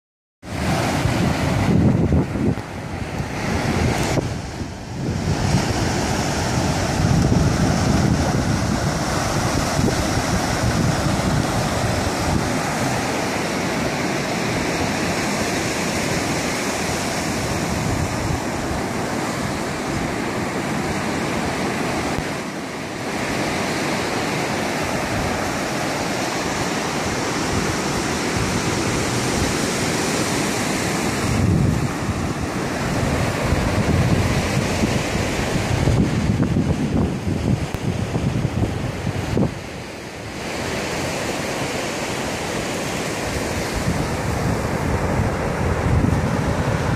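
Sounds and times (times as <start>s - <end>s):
ocean surf breaking on beach: 0.4s - 46.9s
wind buffeting microphone: 0.4s - 46.9s.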